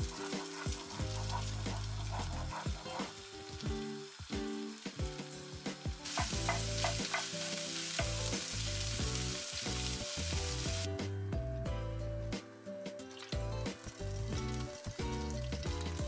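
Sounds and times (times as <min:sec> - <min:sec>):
eggs sizzling in frying pan: 0:00.0 - 0:10.9, 0:13.0 - 0:16.0.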